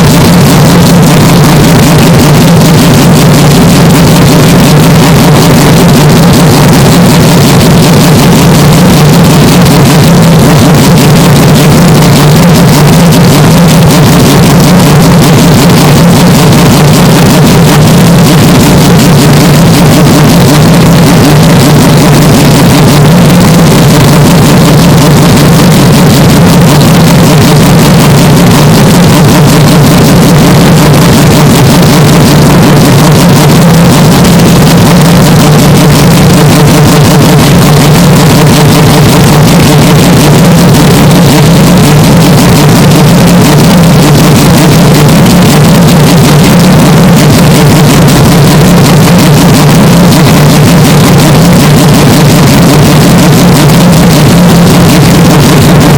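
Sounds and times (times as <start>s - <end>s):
distorted car engine and exhaust: 0.0s - 55.9s.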